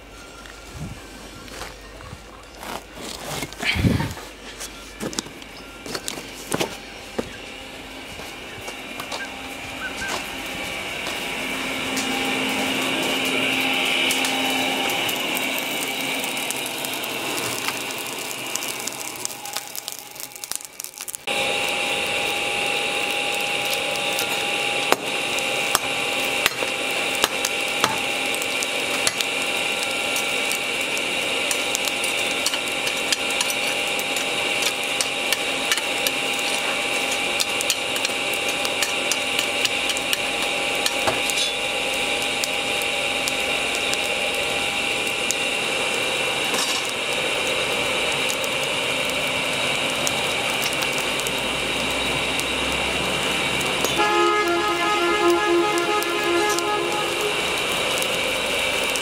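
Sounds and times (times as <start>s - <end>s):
charcoal crackling and popping: 0.0s - 59.0s
faint hum: 0.0s - 59.0s
forge blower whine: 0.0s - 59.0s.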